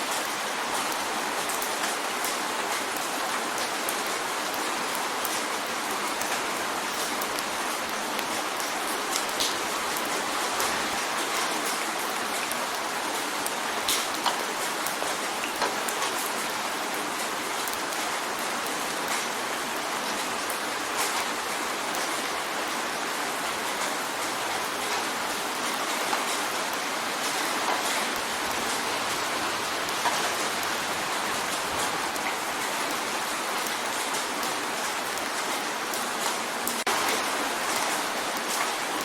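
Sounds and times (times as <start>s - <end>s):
rain drumming on a window: 0.0s - 39.0s.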